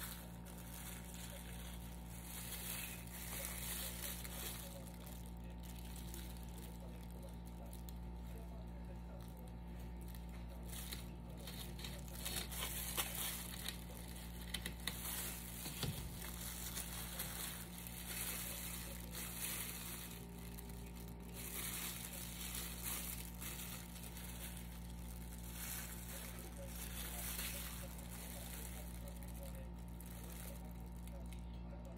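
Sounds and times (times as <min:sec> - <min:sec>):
plastic gloves crinkling: 0:00.0 - 0:31.9.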